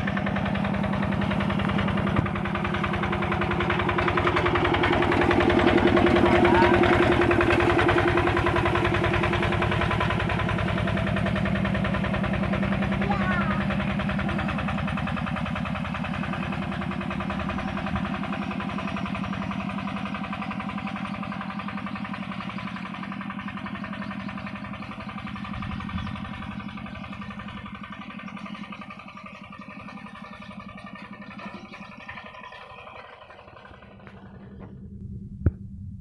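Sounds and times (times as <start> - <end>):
diesel engine chugging: 0.0 - 36.0.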